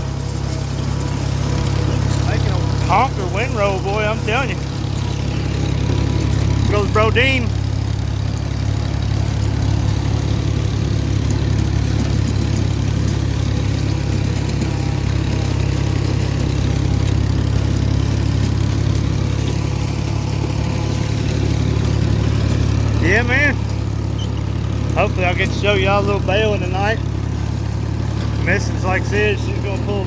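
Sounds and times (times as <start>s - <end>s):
tractor engine humming: 0.0s - 30.0s.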